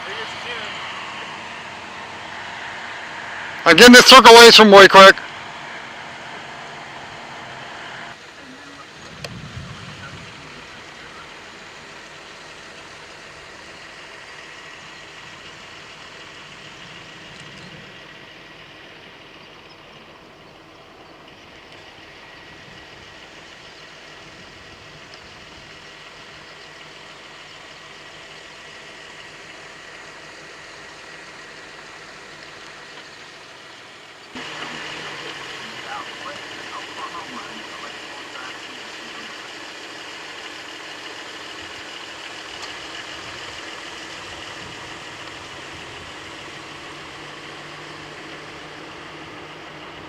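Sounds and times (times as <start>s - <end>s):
vehicle engine hum: 0.0s - 50.0s.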